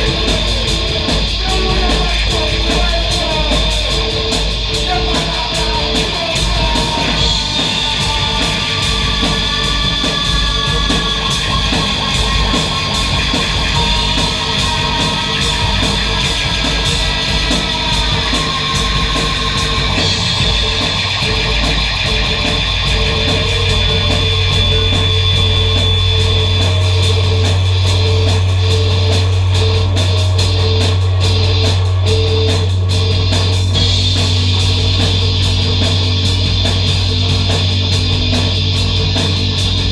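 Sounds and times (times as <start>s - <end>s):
deep low drone: 0.0s - 39.9s
distorted noise music: 0.0s - 39.9s.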